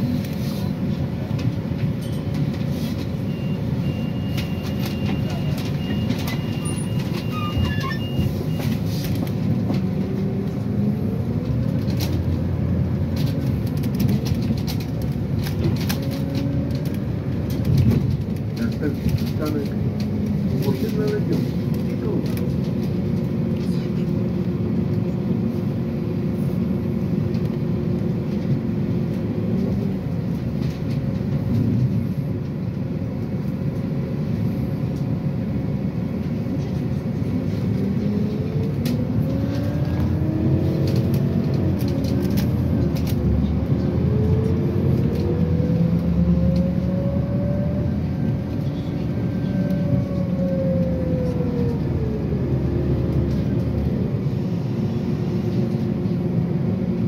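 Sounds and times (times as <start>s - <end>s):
bus drivetrain running: 0.0s - 57.0s.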